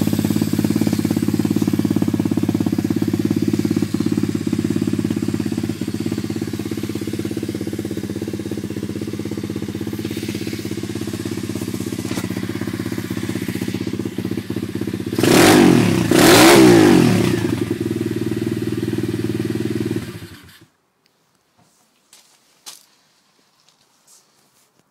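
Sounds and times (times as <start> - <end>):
motorbike engine idling and revving: 0.0 - 20.7.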